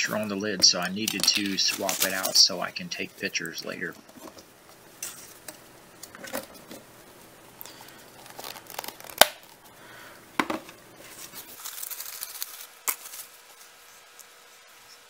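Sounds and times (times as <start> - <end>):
plastic lids and gloves crinkling: 0.0 - 9.7, 10.5 - 14.7.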